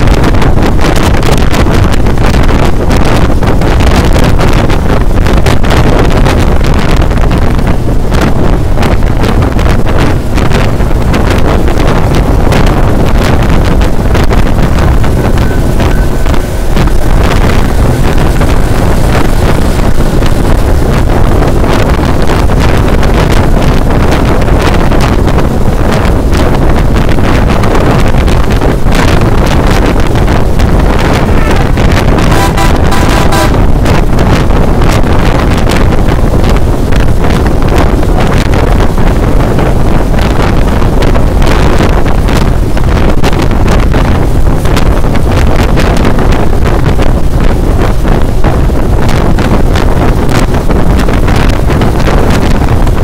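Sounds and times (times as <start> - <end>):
low road rumble: 0.0 - 53.0
wind buffeting microphone: 0.0 - 53.0.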